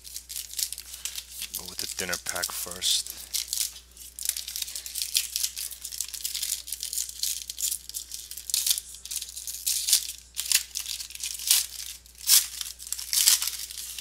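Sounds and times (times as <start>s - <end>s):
packaging and cards rustling: 0.0s - 14.0s
wrapper tearing and crinkling: 0.0s - 14.0s.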